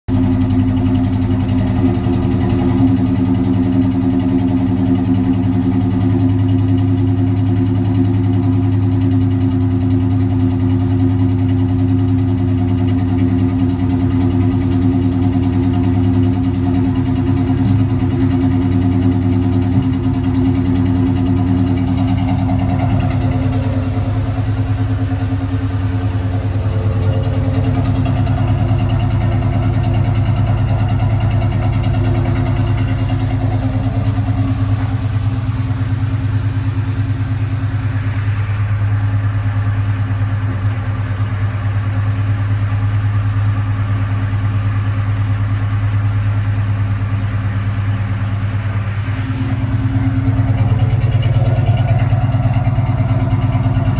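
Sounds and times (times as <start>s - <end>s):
engine idling roughly: 0.0s - 53.9s.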